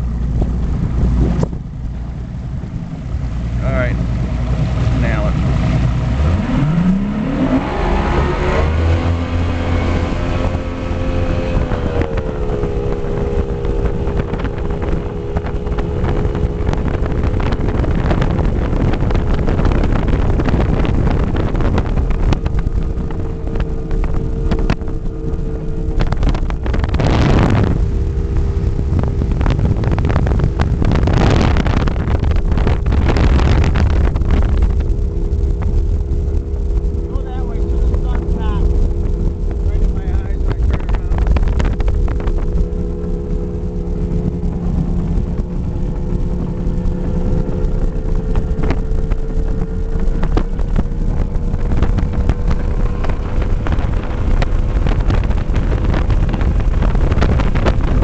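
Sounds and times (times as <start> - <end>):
outboard engine running at speed: 0.0 - 58.0
wind noise on microphone: 0.0 - 58.0.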